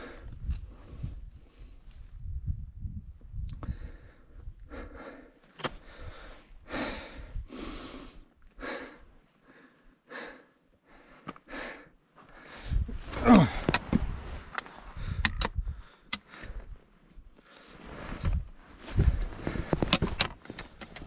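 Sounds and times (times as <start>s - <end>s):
person breathing hard: 0.0s - 1.9s, 3.6s - 20.9s.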